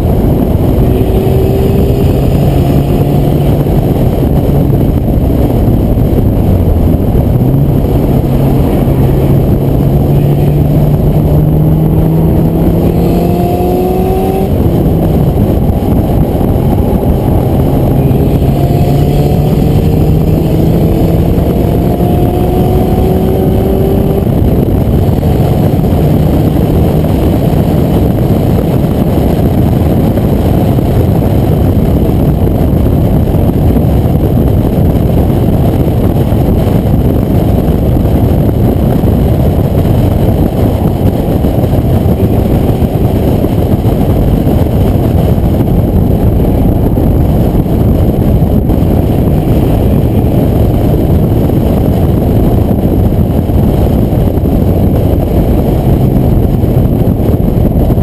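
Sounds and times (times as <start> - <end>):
car engine accelerating: 0.0 - 58.0
wind buffeting through car window: 0.0 - 58.0.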